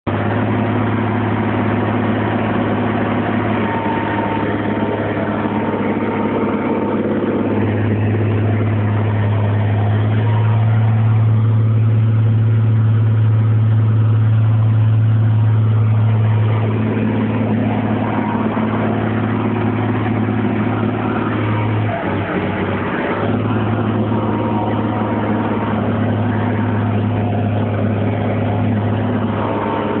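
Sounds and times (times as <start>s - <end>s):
tractor diesel engine drone: 0.0s - 30.0s.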